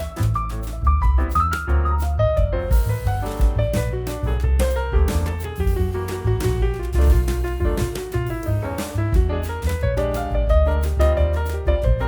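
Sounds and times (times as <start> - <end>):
jazzy piano music with bass: 0.0 - 12.0.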